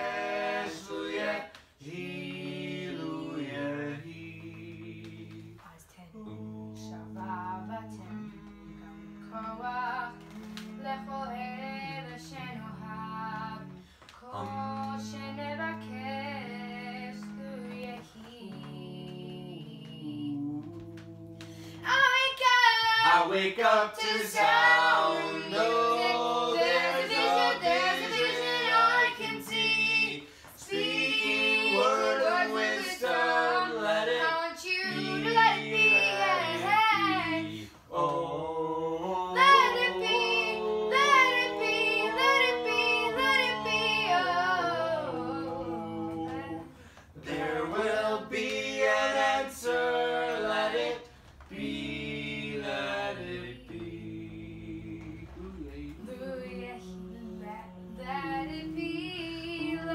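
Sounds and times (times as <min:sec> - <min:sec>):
people singing a cappella in harmony: 0:00.0 - 0:59.9.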